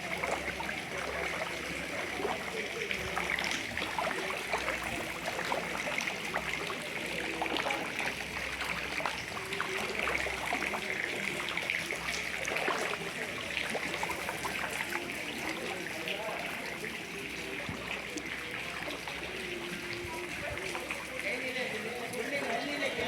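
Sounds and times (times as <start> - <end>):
floodwater rushing: 0.0 - 23.0
small water splashes: 0.0 - 23.0.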